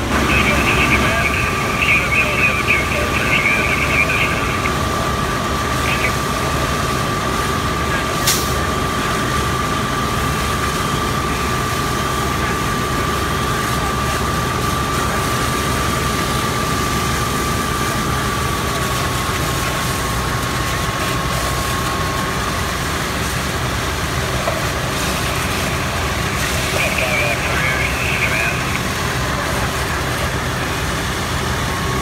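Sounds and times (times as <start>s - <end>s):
fire truck engine idling: 0.0s - 32.0s.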